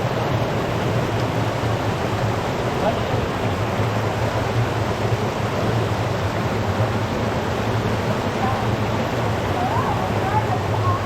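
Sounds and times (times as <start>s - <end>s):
spring water rushing: 0.0s - 11.0s.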